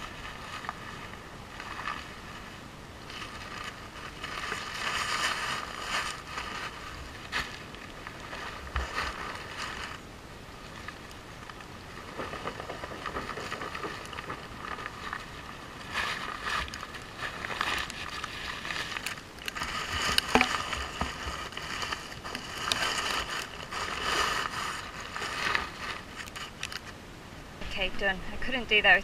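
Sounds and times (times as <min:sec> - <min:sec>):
plastic bags rustling: 0:00.0 - 0:27.0.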